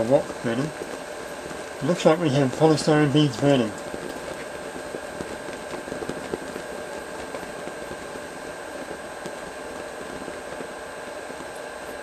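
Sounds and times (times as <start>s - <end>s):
faint burning crackles: 0.0s - 12.0s
faint hum: 0.0s - 12.0s
steady hiss: 0.0s - 12.0s.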